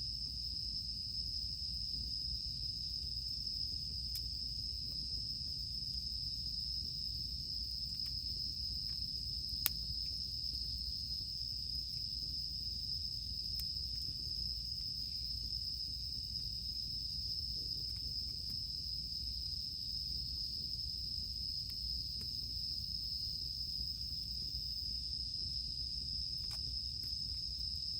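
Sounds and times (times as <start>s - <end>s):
cicadas droning: 0.0s - 27.9s
campfire crackling: 2.8s - 27.8s.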